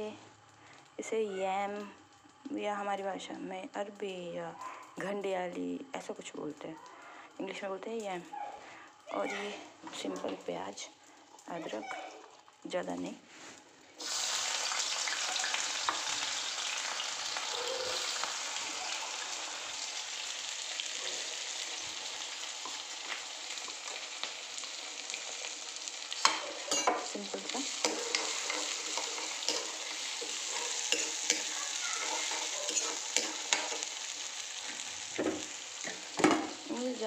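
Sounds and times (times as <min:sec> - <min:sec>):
onion sizzling in oil: 0:05.0 - 0:37.0.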